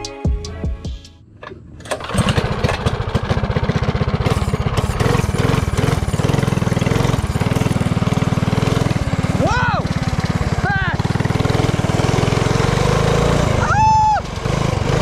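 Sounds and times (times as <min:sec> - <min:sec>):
mini bike engine running: 0:01.8 - 0:15.0.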